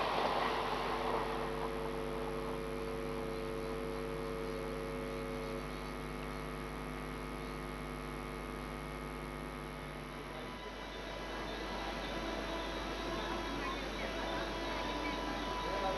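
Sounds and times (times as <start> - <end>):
electrical hum: 0.0 - 15.9.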